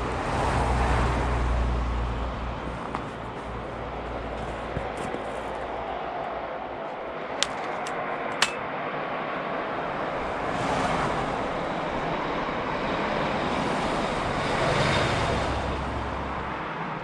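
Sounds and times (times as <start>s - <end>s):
outdoor rushing noise: 0.0s - 17.0s.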